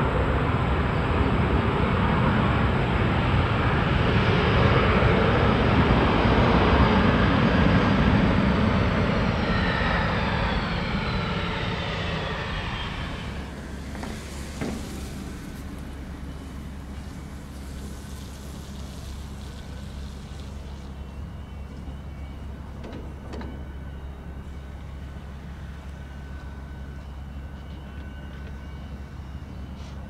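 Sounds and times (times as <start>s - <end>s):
distant jet engines rumbling: 0.0s - 30.0s.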